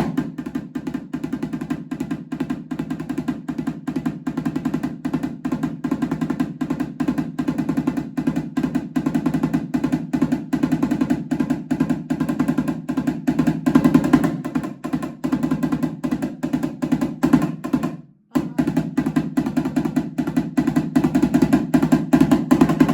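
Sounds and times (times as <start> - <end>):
congas played rapidly: 0.0 - 22.9.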